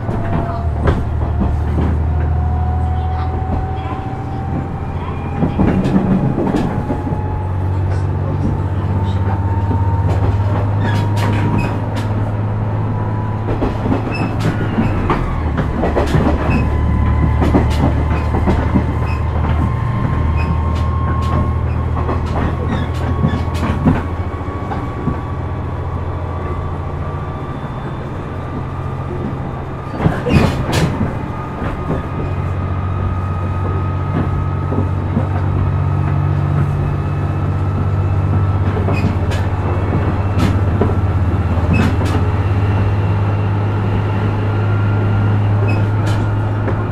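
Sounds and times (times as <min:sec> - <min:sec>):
wheel clicks over rail joints: 0:00.0 - 0:25.4, 0:28.6 - 0:43.0
diesel drone: 0:00.0 - 0:46.9.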